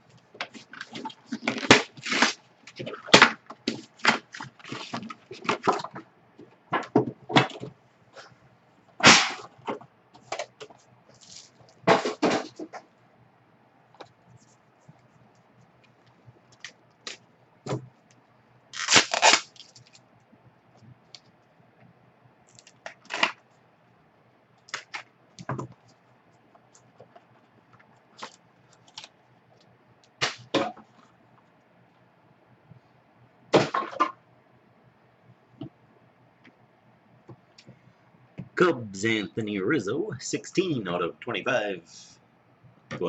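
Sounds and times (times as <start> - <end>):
faint low hum: 0.0 - 43.0.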